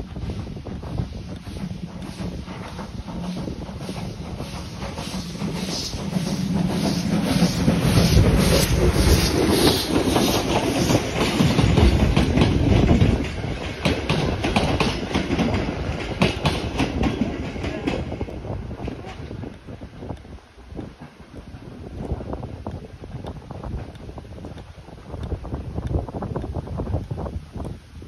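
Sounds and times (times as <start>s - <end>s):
steam locomotive exhaust beats: 0.0s - 28.0s
carriage wheels clicking on rail joints: 0.1s - 27.8s.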